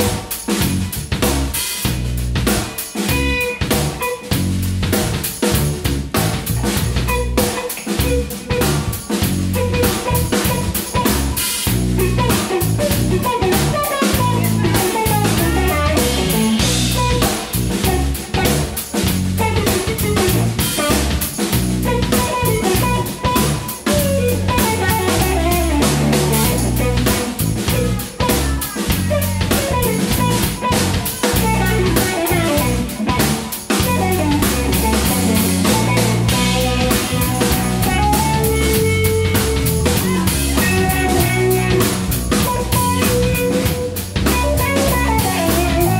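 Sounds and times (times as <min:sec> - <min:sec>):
bass line: 0:00.0 - 0:45.9
drum kit: 0:00.0 - 0:45.9
electric guitar: 0:00.0 - 0:45.9.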